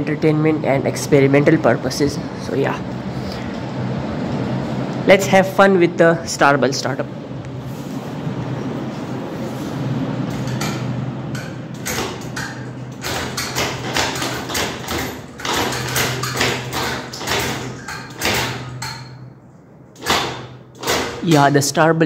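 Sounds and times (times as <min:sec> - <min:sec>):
ceiling fan motor hum: 0:00.0 - 0:22.0
fan blades whooshing air: 0:00.0 - 0:22.0.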